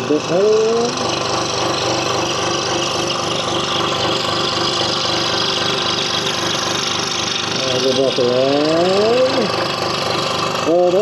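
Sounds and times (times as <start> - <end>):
scroll saw cutting wood: 0.0 - 11.0.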